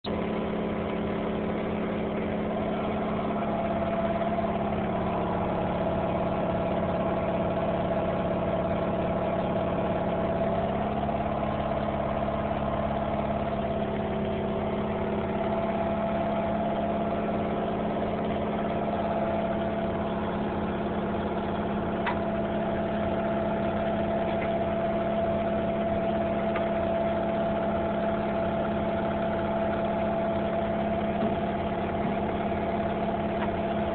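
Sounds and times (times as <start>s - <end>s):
motor hum with held tones: 0.0s - 33.9s.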